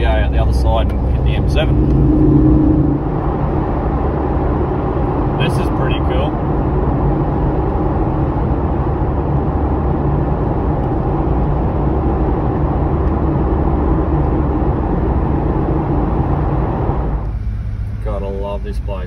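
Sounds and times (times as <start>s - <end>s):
engine and tyre noise in a cab: 0.0s - 19.0s.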